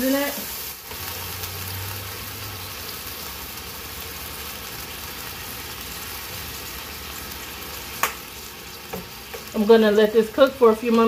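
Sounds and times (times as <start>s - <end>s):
patty sizzling on a griddle: 0.0s - 11.0s.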